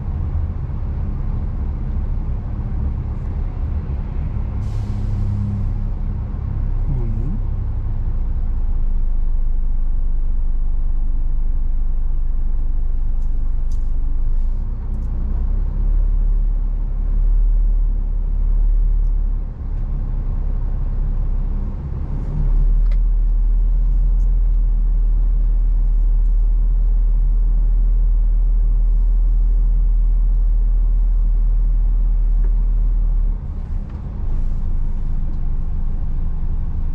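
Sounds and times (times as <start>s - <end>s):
road noise: 0.0s - 36.9s
truck diesel engine droning: 0.0s - 36.9s.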